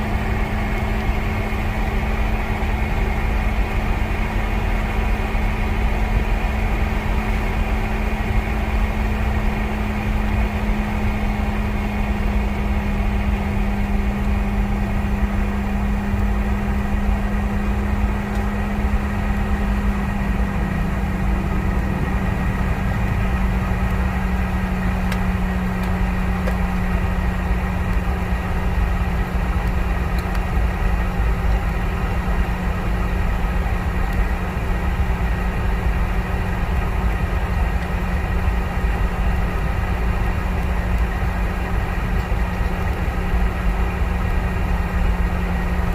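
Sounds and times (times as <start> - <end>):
aircraft cabin engine drone: 0.0 - 45.9.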